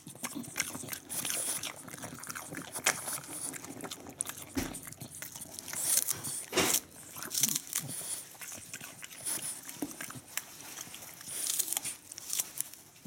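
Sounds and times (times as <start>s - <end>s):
dog chewing crunchy cabbage: 0.0s - 13.0s.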